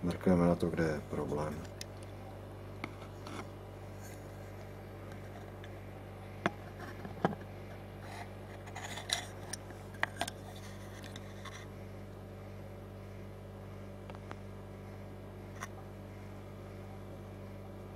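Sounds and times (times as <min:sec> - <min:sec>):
low electrical hum: 0:00.0 - 0:17.9.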